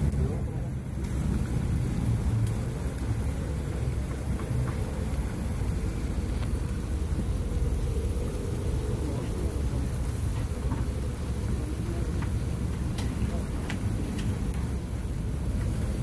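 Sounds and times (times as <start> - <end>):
low rumble of street ambience: 0.0 - 16.0.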